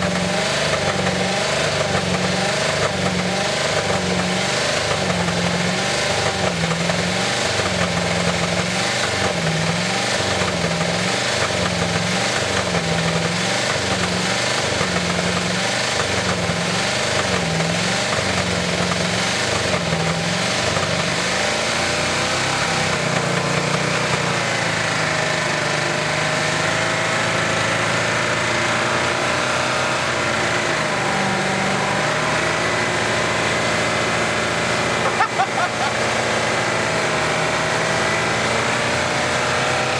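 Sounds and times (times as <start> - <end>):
truck engine at high revs: 0.0 - 39.9.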